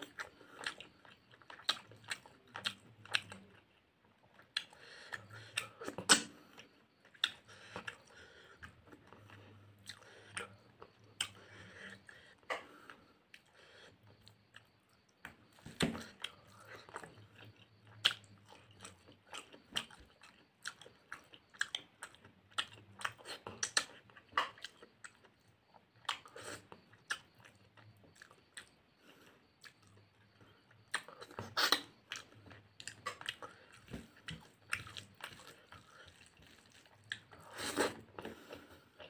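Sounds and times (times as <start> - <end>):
chewing and biting food: 0.0 - 39.0.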